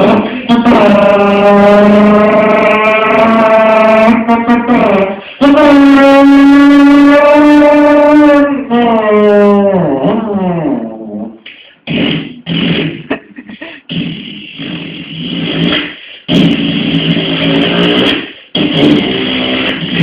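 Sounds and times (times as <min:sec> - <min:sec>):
man imitating engine revving: 0:00.0 - 0:20.0.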